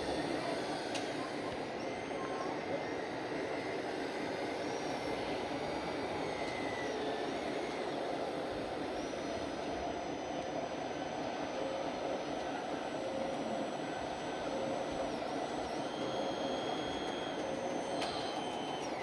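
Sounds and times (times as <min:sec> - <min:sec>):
electric motor whine: 0:00.0 - 0:19.0
model vehicle mechanical drone: 0:00.0 - 0:19.0.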